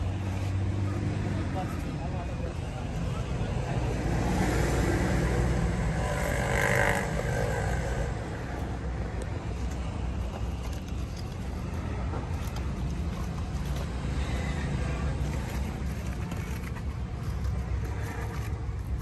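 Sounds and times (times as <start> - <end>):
low engine rumble of traffic: 0.0 - 19.0.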